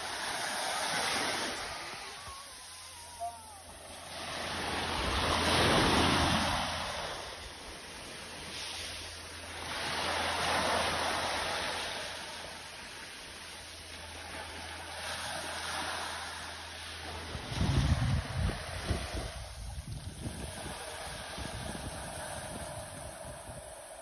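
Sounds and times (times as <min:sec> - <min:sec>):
small waves breaking on sand: 0:00.0 - 0:24.0.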